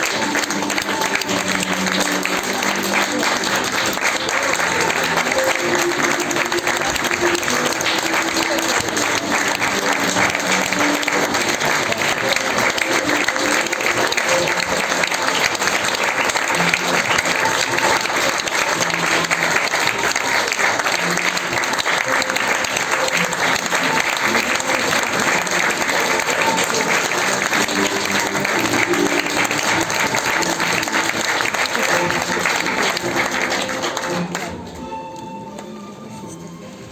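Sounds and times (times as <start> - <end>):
audience applauding: 0.0 - 34.8
quiet music: 0.0 - 36.9.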